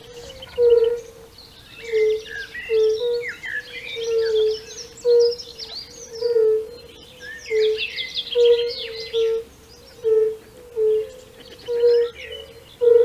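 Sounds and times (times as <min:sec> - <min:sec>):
songbirds twittering: 0:00.0 - 0:13.0
toads calling in chorus: 0:00.0 - 0:13.0.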